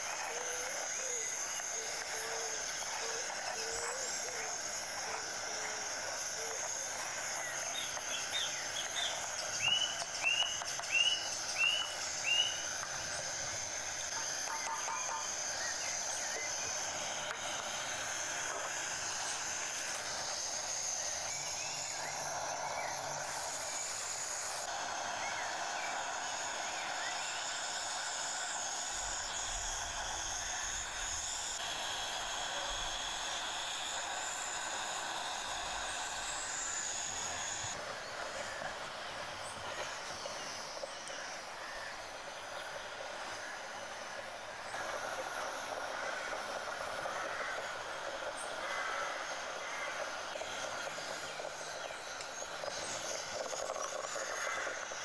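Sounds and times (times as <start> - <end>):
even hiss: 0.0 - 55.0
insect chorus shrilling: 0.0 - 55.0.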